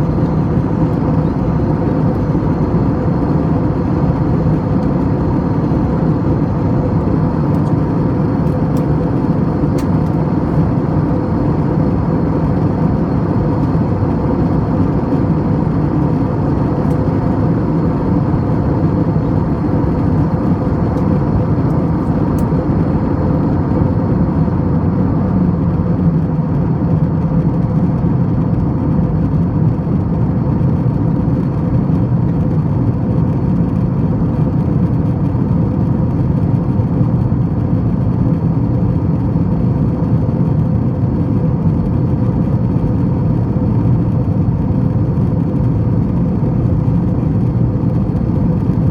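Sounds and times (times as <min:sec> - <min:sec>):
jet engine and airflow roar: 0:00.0 - 0:48.9.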